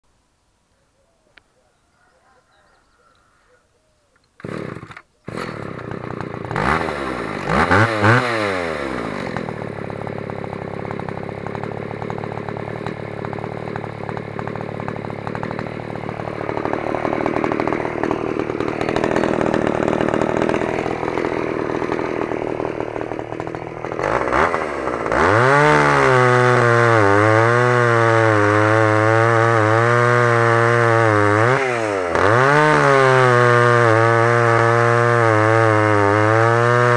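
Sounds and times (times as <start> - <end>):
chainsaw cutting log: 4.3 - 36.9
chainsaw pull-started: 4.3 - 36.9
chainsaw idling: 4.4 - 36.9.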